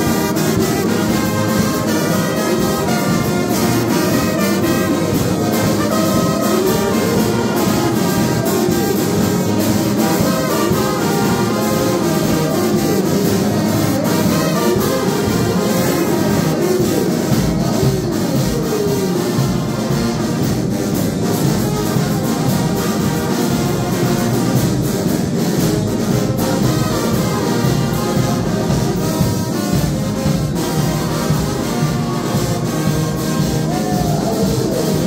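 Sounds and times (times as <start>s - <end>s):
brass band playing: 0.0s - 35.0s.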